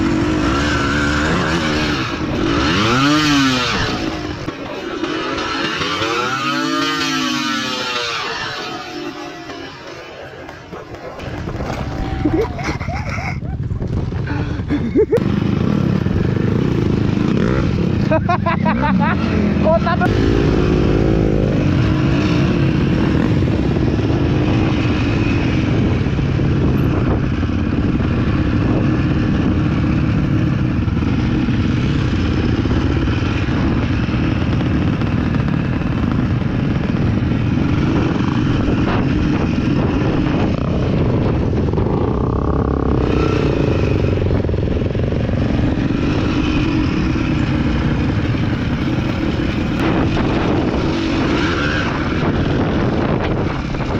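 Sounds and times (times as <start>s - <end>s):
dirt bike engine revving: 0.0s - 13.0s, 14.0s - 53.9s.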